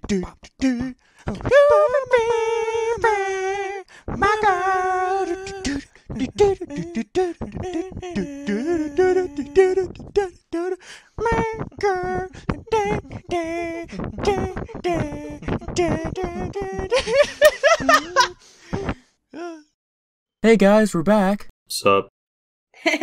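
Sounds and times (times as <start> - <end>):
a cappella voices singing: 0.0 - 19.0.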